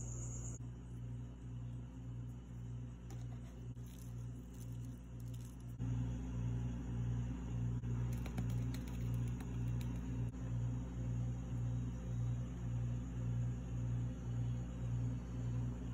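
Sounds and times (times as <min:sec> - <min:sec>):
pulsing low mechanical hum: 0:00.0 - 0:15.9.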